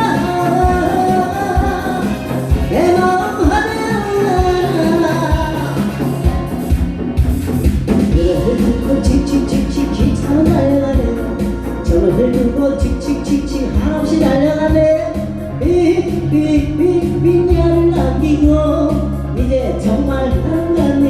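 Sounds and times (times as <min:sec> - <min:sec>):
person singing with vibrato: 0:00.0 - 0:07.4, 0:08.0 - 0:21.0
backing track with drum beat: 0:00.0 - 0:21.0.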